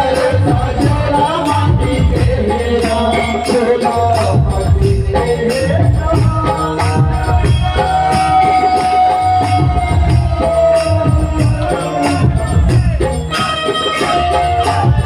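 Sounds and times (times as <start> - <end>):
jingling hand percussion: 0.0 - 15.0
steady drum beat: 0.0 - 15.0.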